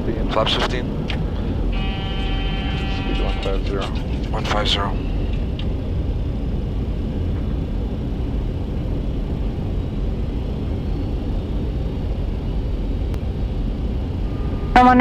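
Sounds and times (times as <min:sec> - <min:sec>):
aircraft cockpit rumble: 0:00.0 - 0:15.0.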